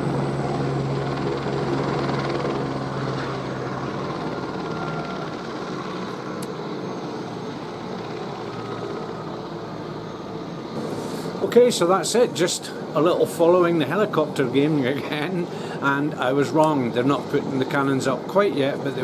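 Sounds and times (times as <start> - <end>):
helicopter rotor and turbine: 0.0 - 19.0.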